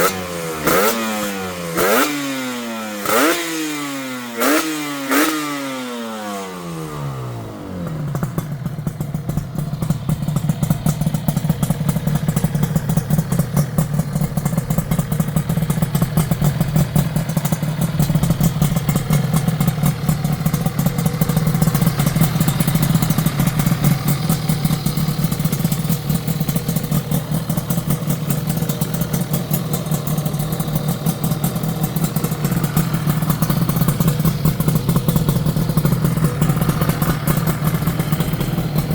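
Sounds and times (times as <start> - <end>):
two-stroke motorcycle engine idling: 0.0 - 38.9.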